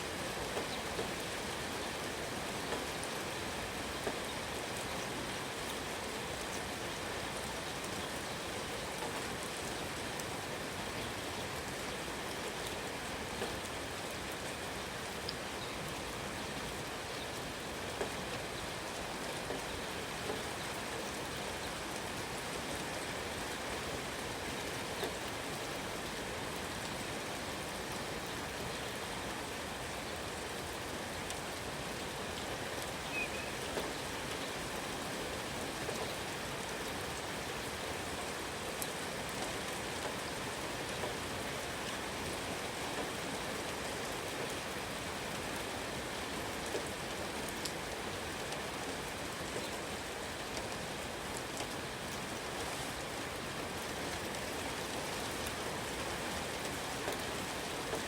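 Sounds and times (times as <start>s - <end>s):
raindrops ticking on surfaces: 0.0s - 58.0s
steady rain falling: 0.0s - 58.0s.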